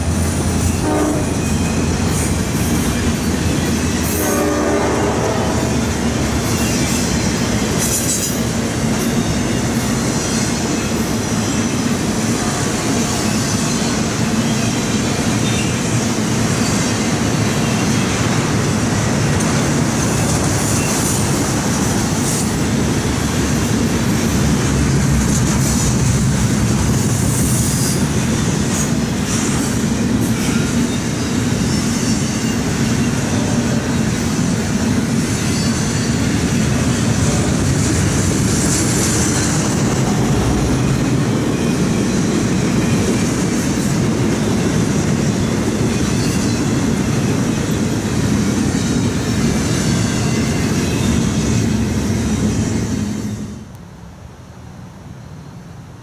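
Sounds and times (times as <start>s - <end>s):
train wheels rumbling on rails: 0.0s - 54.3s.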